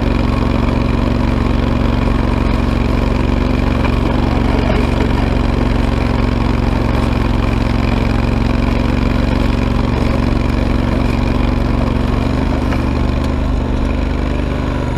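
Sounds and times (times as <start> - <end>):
tractor engine running: 0.0 - 14.9.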